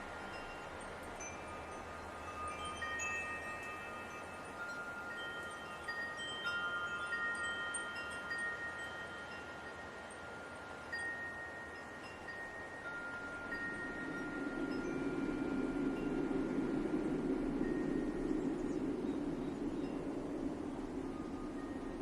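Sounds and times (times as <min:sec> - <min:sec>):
metal wind chimes ringing: 0:00.0 - 0:22.0
soft wind hiss: 0:00.0 - 0:22.0.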